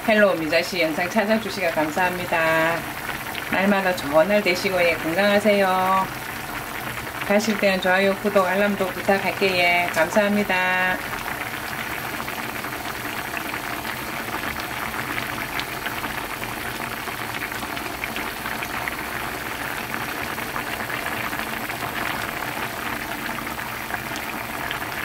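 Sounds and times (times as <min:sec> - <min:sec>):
stew boiling with bubbling pops: 0:00.0 - 0:25.0.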